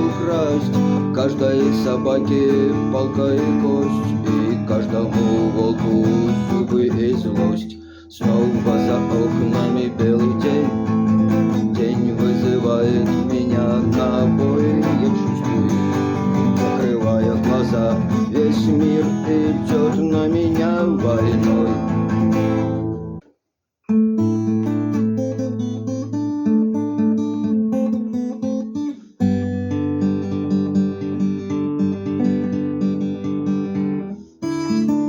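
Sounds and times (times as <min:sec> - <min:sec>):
acoustic guitar strumming: 0:00.0 - 0:23.2, 0:23.9 - 0:35.0.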